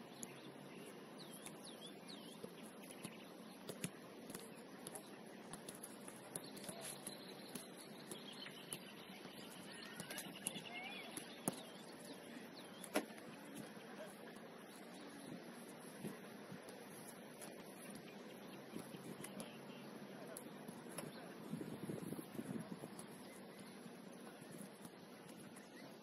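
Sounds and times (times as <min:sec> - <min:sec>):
birds chirping: 0:00.0 - 0:26.0
steady low outdoor noise: 0:00.0 - 0:26.0.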